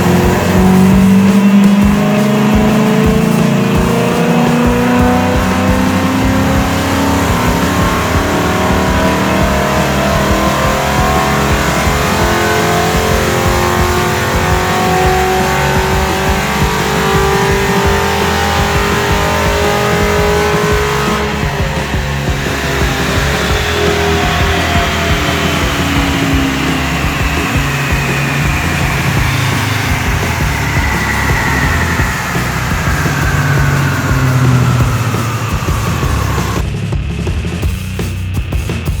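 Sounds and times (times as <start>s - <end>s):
loud car exhaust note: 0.0s - 36.9s.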